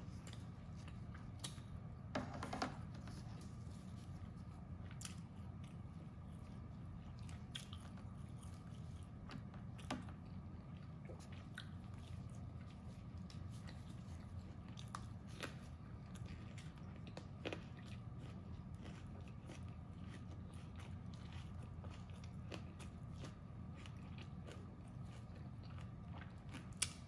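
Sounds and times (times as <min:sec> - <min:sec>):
steady low hum: 0:00.0 - 0:27.0
chewing and biting crunches: 0:03.5 - 0:27.0.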